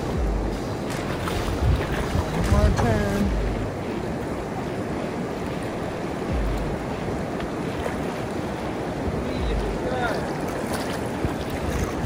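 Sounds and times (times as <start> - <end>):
river water rushing and lapping: 0.0 - 12.0
wind buffeting microphone: 0.0 - 12.0.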